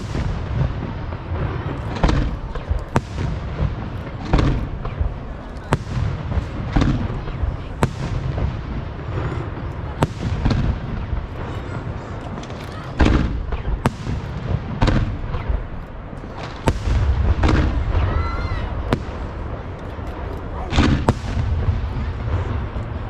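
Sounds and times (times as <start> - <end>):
low rumble of booms: 0.0 - 23.0.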